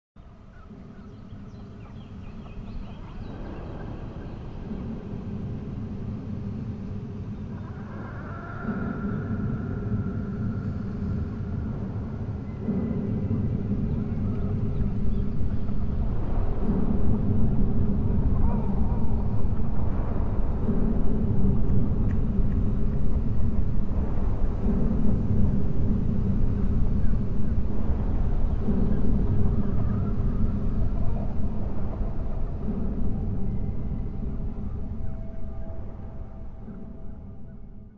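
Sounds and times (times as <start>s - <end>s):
ominous low rumbling drone: 0.2s - 37.9s.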